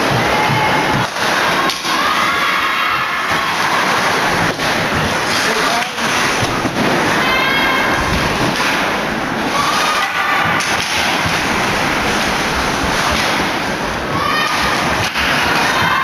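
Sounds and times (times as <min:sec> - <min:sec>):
raised voices: 0:00.0 - 0:08.6, 0:09.4 - 0:12.8, 0:13.9 - 0:16.0
crowd cheering and yelling: 0:00.0 - 0:13.0, 0:13.8 - 0:16.0.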